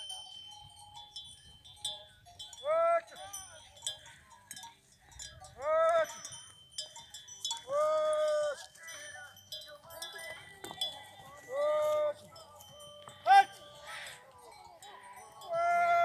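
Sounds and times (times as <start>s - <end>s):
pack horse bells jingling: 0.0s - 16.0s.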